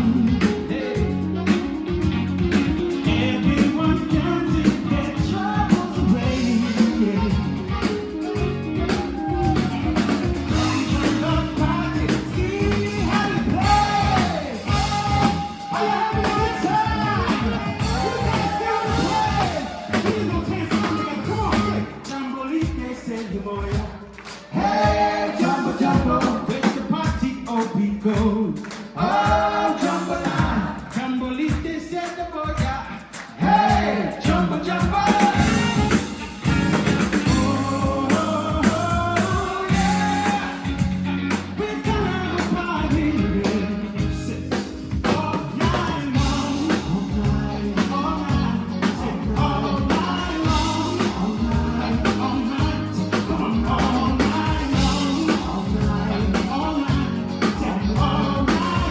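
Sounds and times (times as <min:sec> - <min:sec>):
drum-kit beat: 0:00.0 - 0:58.9
live rock band: 0:00.0 - 0:58.9
person singing: 0:00.0 - 0:58.9.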